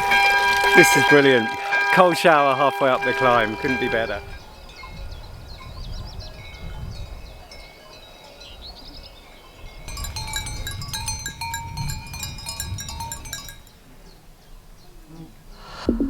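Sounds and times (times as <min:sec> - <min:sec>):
small bells ringing: 0:00.0 - 0:14.0
birds chirping: 0:00.6 - 0:16.0.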